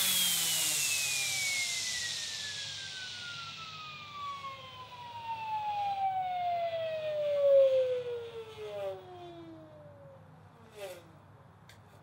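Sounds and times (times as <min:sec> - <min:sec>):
helicopter rotor whine winding down: 0:00.0 - 0:09.7.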